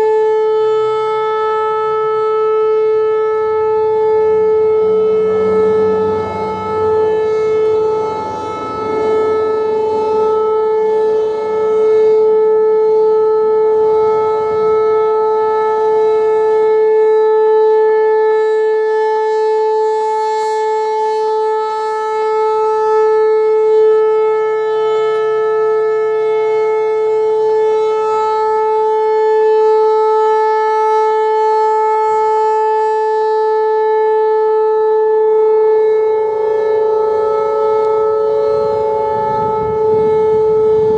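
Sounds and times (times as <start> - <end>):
electronic siren steady tone: 0.0 - 40.9.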